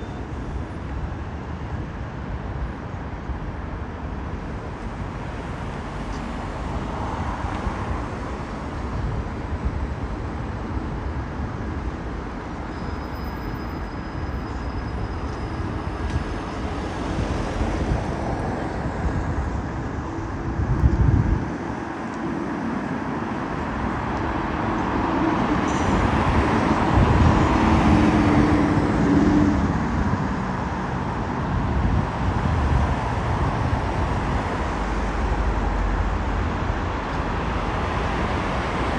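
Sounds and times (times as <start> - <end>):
hum of passing vehicles: 0.0 - 38.9.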